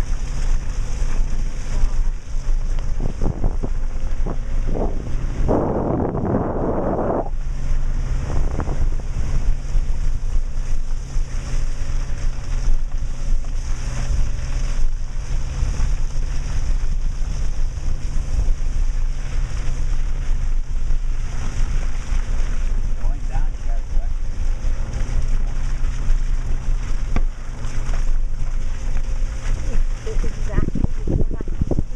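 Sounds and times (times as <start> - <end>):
car engine and tyre drone: 0.0 - 31.9
rumbling and rustling: 0.0 - 31.9.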